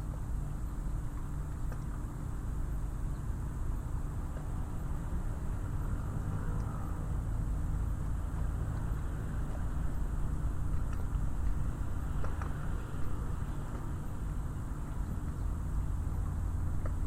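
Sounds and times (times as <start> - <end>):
background noise wash: 0.0 - 17.0
faint constant hum: 0.0 - 17.0
low engine rumble: 0.0 - 17.0.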